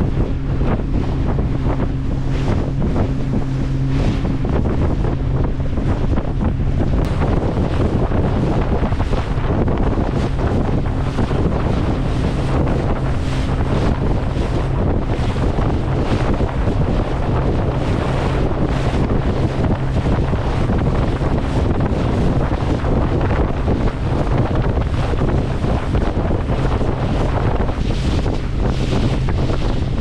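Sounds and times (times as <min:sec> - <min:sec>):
boat engine low drone: 0:00.0 - 0:30.0
wind buffeting microphone: 0:00.0 - 0:30.0.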